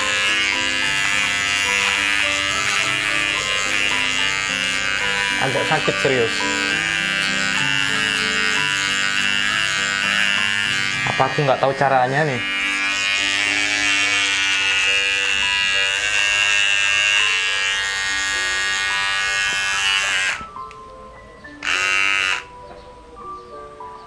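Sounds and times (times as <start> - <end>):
hair clipper buzzing: 0.0 - 20.8, 21.6 - 22.6.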